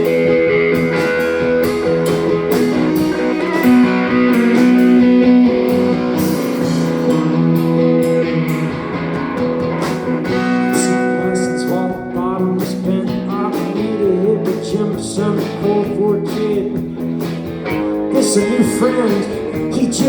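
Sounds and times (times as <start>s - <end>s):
instrumental band music with guitar: 0.0s - 20.0s.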